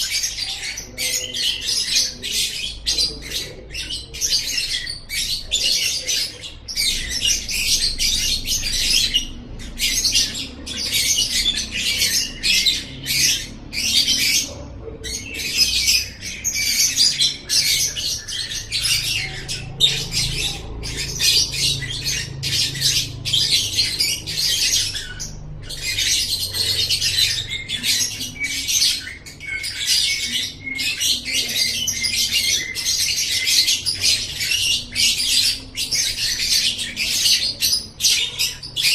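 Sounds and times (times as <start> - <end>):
lovebird chattering and squawking: 0.0 - 38.9.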